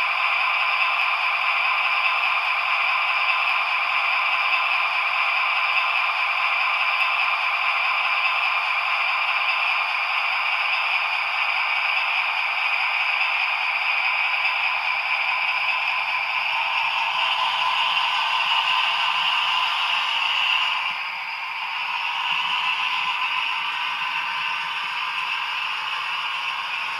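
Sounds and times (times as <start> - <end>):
model train rattling on rails: 0.0 - 26.9.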